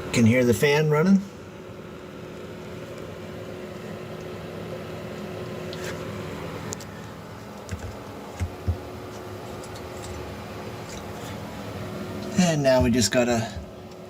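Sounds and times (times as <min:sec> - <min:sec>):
refrigerator fan motor humming: 0:00.0 - 0:14.0.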